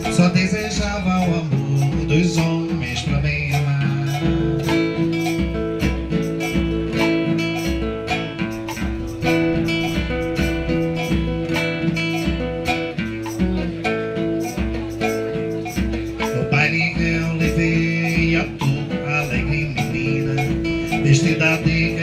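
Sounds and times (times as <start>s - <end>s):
acoustic guitar playing: 0.0s - 22.0s
drums keeping a beat: 0.0s - 22.0s.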